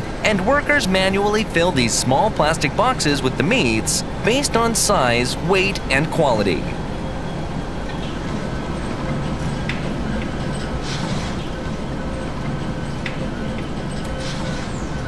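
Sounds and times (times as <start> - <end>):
machinery humming and rumbling: 0.0 - 15.0.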